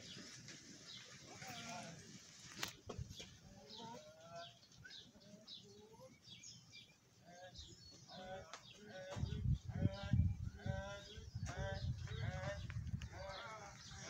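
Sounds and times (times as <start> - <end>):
farm animals calling: 0.0 - 14.0
small birds chirping: 0.0 - 14.0.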